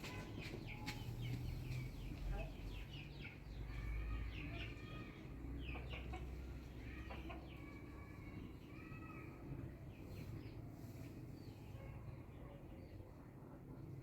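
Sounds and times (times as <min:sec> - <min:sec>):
chickens chirping and calling: 0:00.0 - 0:11.7.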